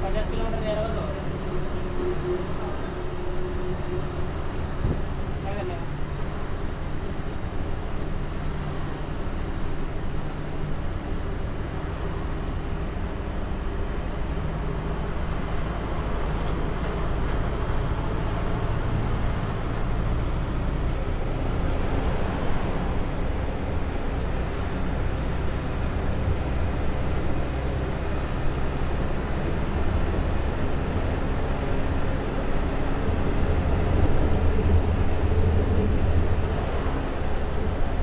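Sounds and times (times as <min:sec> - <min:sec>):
engine and tyre rumble: 0:00.0 - 0:38.0.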